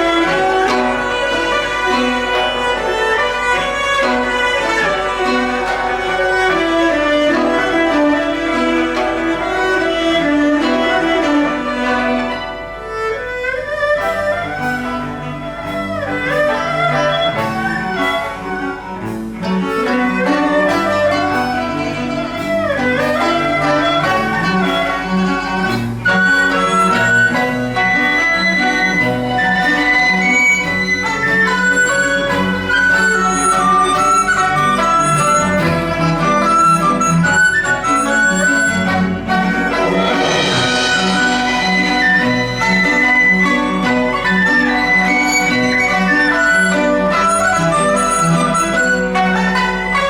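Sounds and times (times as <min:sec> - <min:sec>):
chamber ensemble playing melody: 0:00.0 - 0:50.0.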